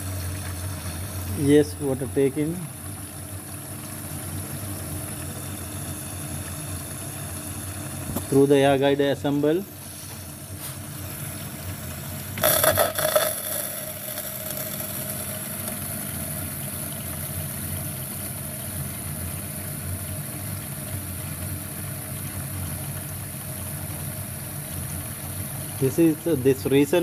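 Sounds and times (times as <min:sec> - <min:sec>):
dishwasher water filling: 0:00.0 - 0:27.0.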